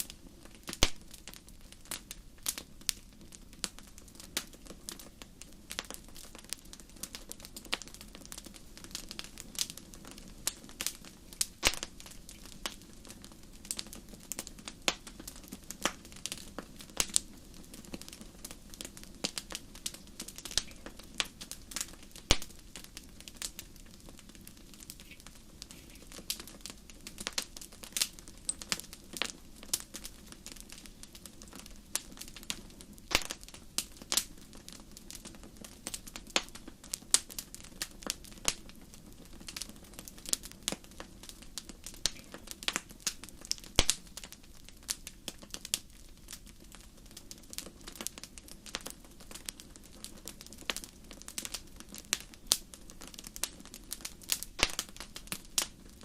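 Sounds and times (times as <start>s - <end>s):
low rush of burning fire: 0.0s - 56.0s
wood fire crackling: 0.0s - 56.0s.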